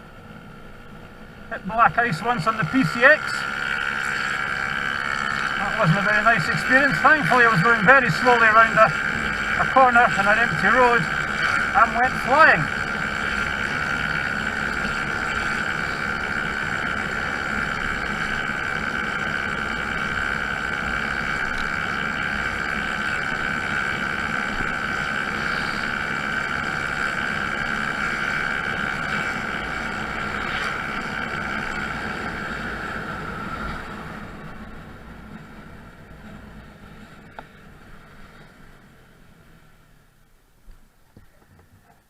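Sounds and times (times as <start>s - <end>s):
scooter engine droning: 0.0s - 40.4s.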